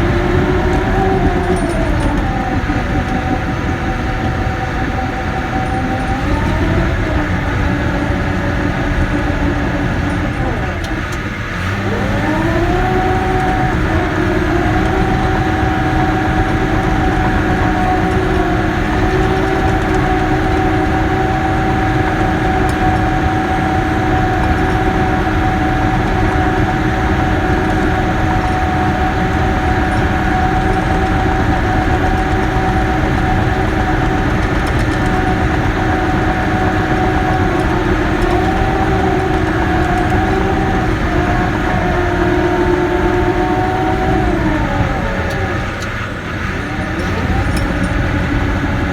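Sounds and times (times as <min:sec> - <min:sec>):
bulldozer diesel engine running: 0:00.0 - 0:48.9
steady whine: 0:00.0 - 0:48.9.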